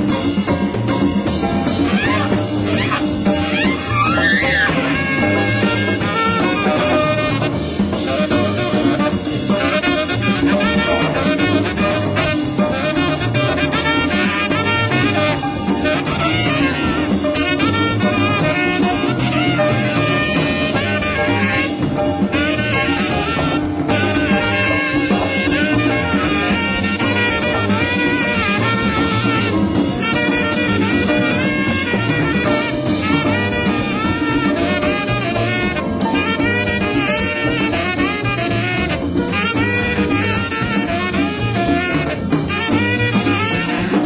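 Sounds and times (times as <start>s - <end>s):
live jazz band playing: 0.0s - 44.0s
tenor saxophone line: 1.4s - 44.0s.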